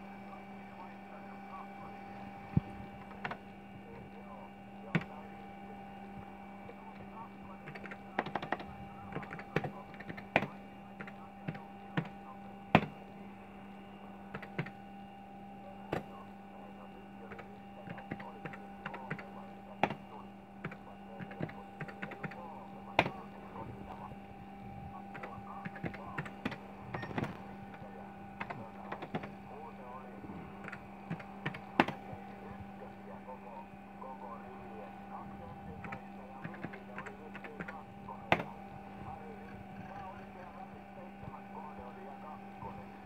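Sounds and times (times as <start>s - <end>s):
computer electrical hum: 0.0s - 43.0s.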